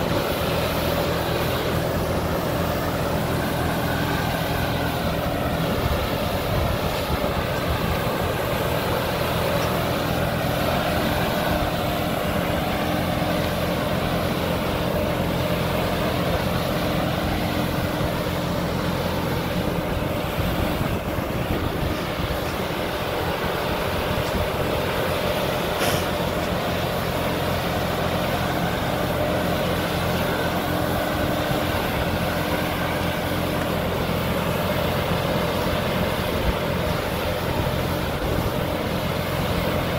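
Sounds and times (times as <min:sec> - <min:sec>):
sprayer fan rushing air: 0:00.0 - 0:39.9
tractor diesel engine running: 0:00.0 - 0:39.9.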